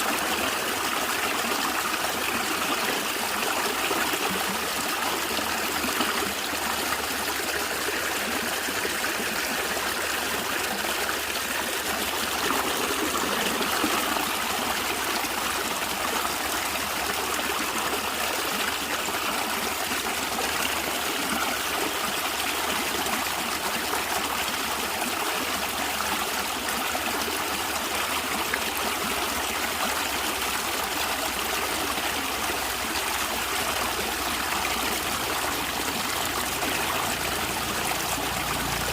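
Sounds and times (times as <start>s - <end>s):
water gurgling over stones: 0.0s - 38.9s.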